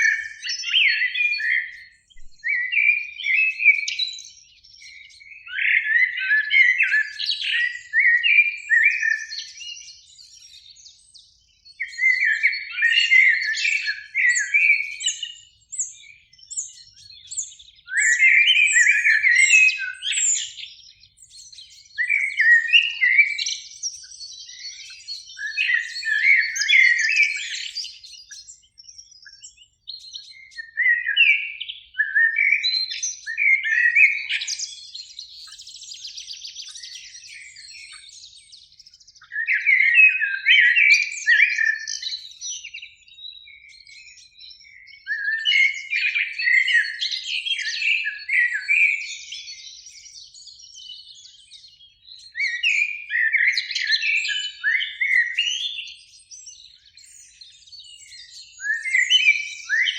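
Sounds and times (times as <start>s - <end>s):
blackbird singing: 0.0s - 59.9s.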